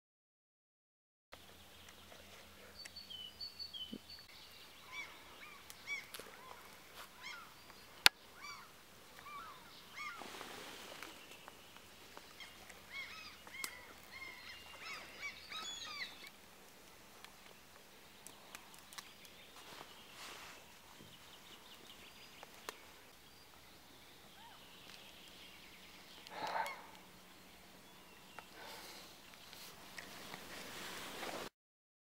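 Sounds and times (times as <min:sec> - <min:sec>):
birds chirping: 0:01.4 - 0:31.4.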